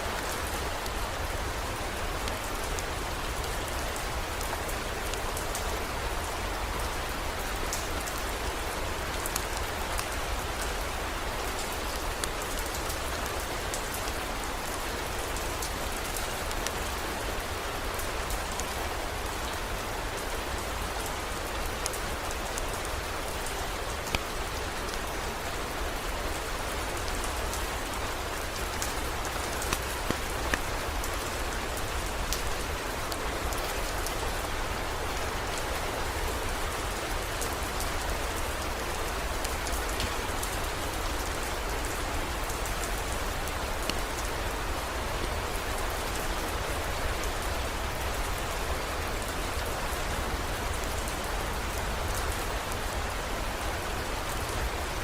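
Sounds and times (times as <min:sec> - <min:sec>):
rain drops ticking: 0:00.0 - 0:55.0.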